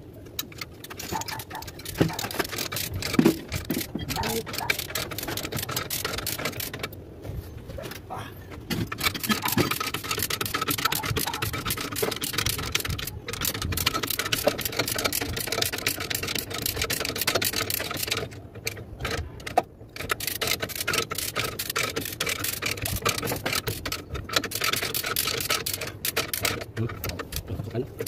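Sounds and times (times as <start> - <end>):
chain hoist clicking: 0.3 - 7.0, 8.7 - 28.0.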